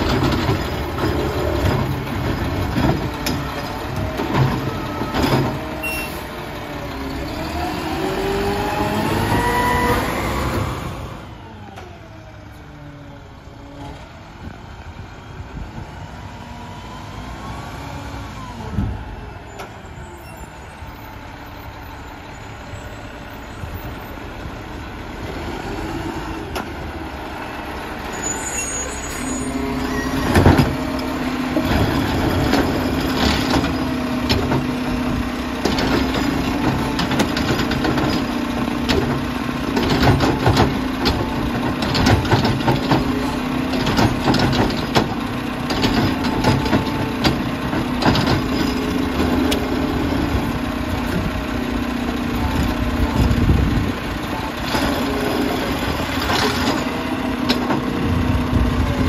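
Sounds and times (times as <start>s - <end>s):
diesel engine revving: 0.0s - 12.4s, 22.2s - 59.0s.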